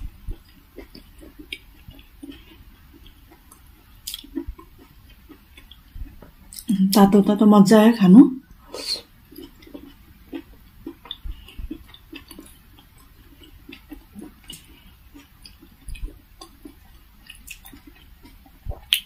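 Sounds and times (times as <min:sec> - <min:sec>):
person chewing food: 0:00.0 - 0:06.7, 0:08.5 - 0:19.0.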